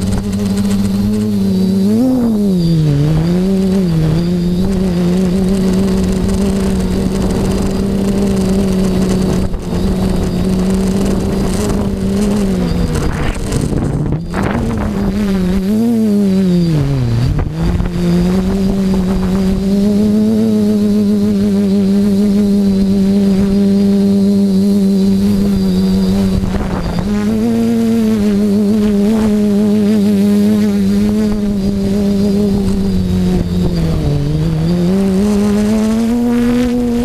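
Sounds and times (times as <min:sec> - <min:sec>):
drone propellers humming: 0:00.0 - 0:37.0
wind on microphone: 0:00.0 - 0:37.0.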